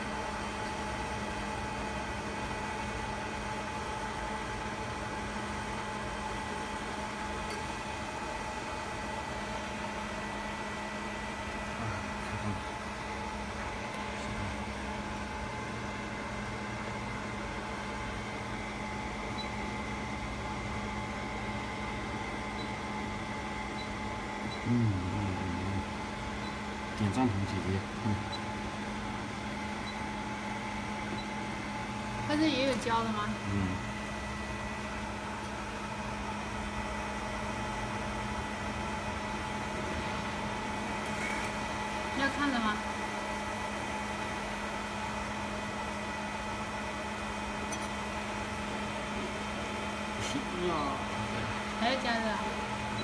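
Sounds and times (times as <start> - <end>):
blowers and fans whirring: 0.0 - 53.0.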